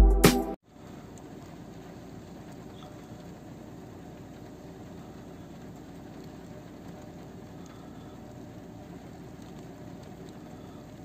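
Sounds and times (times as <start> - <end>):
outdoor background rumble: 0.6 - 11.0.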